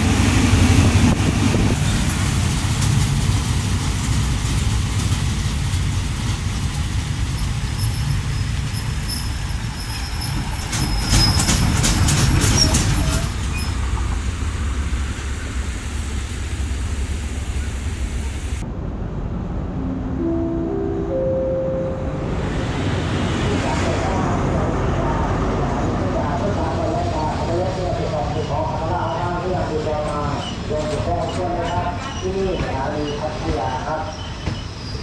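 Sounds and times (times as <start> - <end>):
train wheels rumbling: 0.0 - 19.7, 22.3 - 35.0.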